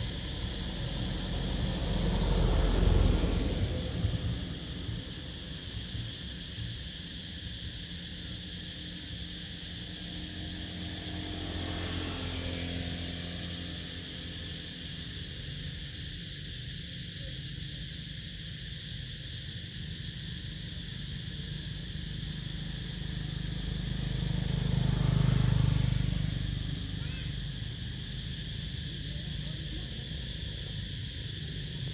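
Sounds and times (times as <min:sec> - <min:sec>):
vehicle passing: 0:00.0 - 0:07.0, 0:08.1 - 0:16.2, 0:21.2 - 0:31.9.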